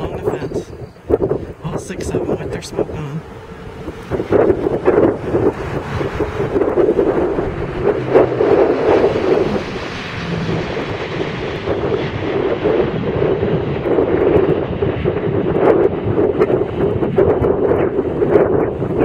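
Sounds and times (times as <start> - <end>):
jet noise passing: 0.0 - 19.0
wind buffeting microphone: 0.0 - 19.0.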